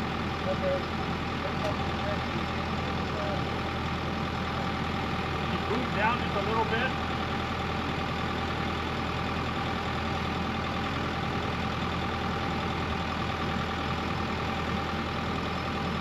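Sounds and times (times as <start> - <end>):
excavator diesel engine idling: 0.0 - 16.0.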